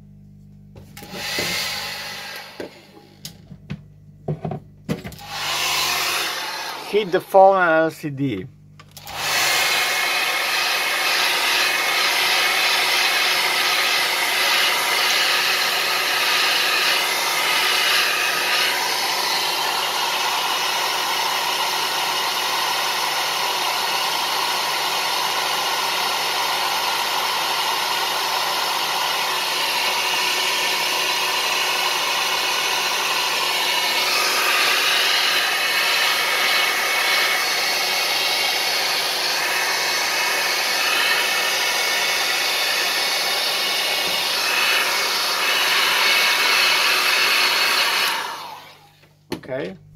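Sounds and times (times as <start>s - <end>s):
hair dryer running: 0.8s - 3.8s, 4.4s - 49.1s.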